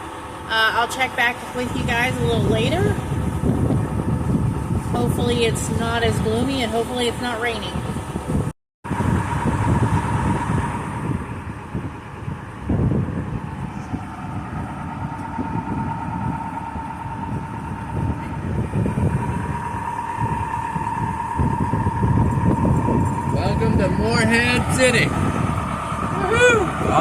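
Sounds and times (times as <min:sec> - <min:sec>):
boat engine running: 0:00.0 - 0:27.0
wind buffeting microphone: 0:00.0 - 0:27.0.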